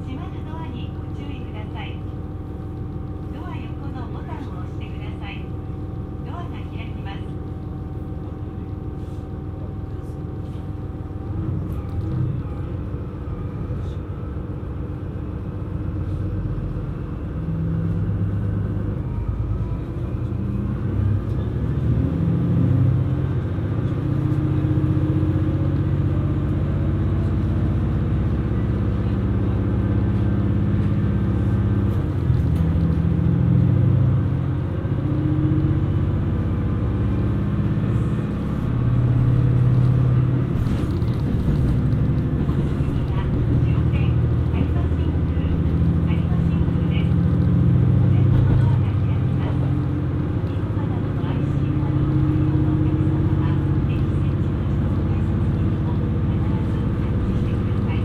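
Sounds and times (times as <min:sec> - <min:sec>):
diesel railcar engine drone: 0:00.0 - 0:58.0
low rolling rumble: 0:00.0 - 0:58.0.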